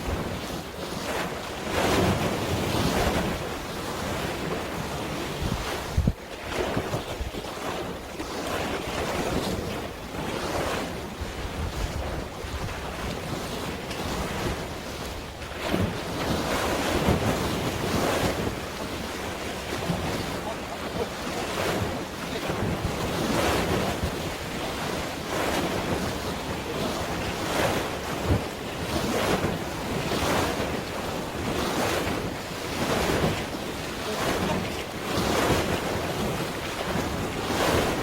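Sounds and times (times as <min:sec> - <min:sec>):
sea waves: 0:00.0 - 0:38.0
wind gusting on microphone: 0:00.0 - 0:38.0.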